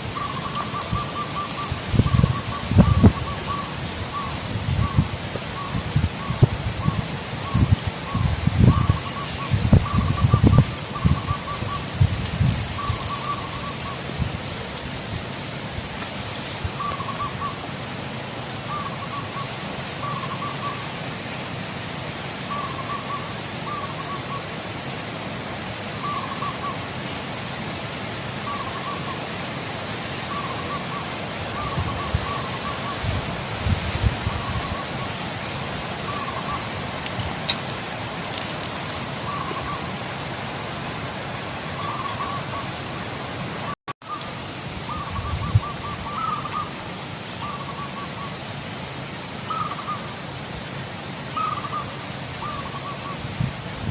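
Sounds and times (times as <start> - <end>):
steady outdoor hiss: 0.0 - 53.9.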